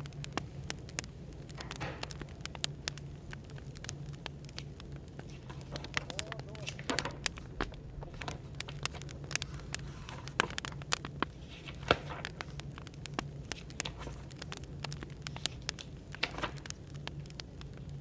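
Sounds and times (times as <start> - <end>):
firewood crackling and popping: 0.0 - 18.0
low room hum: 0.0 - 18.0.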